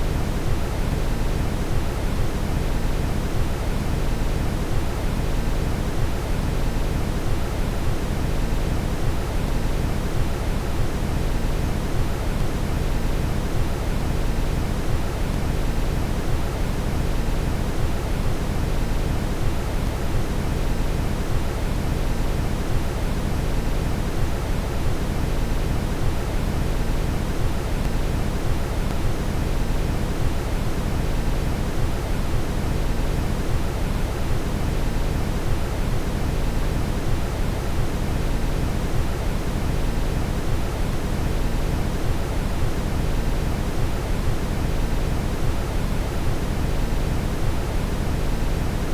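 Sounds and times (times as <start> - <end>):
steady brown noise: 0.0 - 48.9.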